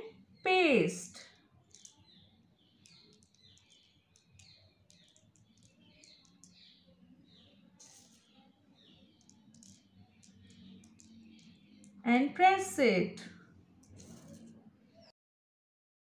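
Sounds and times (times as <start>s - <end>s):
faint bird chirps: 1.1s - 12.1s, 13.2s - 15.1s.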